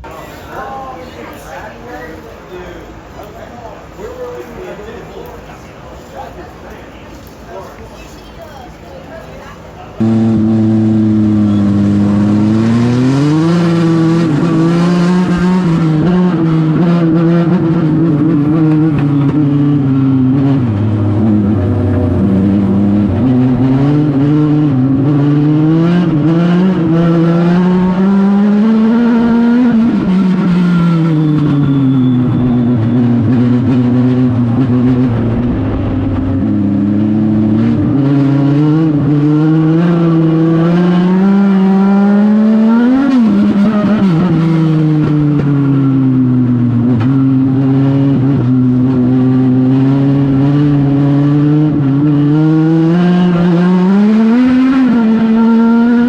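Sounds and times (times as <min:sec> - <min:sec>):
race car engine revving: 0:10.0 - 0:56.0.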